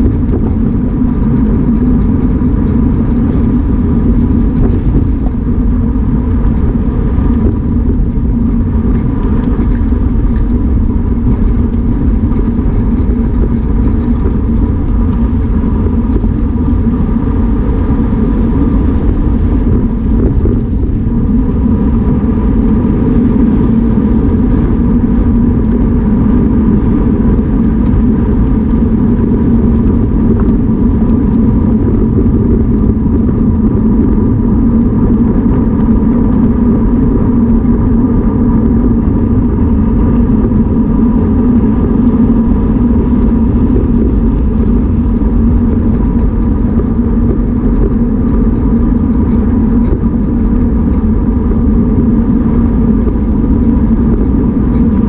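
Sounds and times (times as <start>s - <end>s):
bike tyres rumbling on concrete: 0.0s - 55.0s
wind rushing over microphone: 0.0s - 55.0s.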